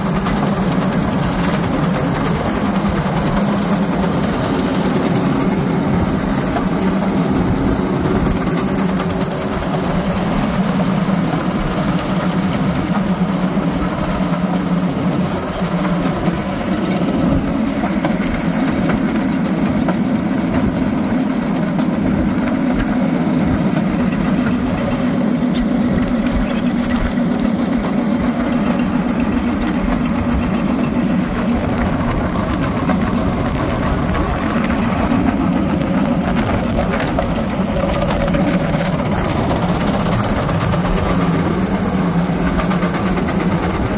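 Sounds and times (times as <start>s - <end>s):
cart rolling on rails: 0.0s - 43.9s
small engine running: 0.0s - 43.9s.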